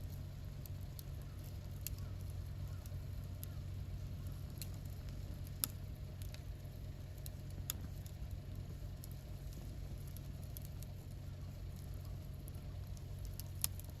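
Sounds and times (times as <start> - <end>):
campfire crackling and popping: 0.0 - 14.0
low fire rumble: 0.0 - 14.0.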